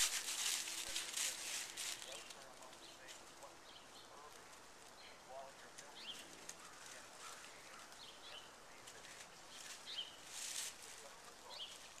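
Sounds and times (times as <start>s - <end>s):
dry leaves rustling: 0.0s - 12.0s.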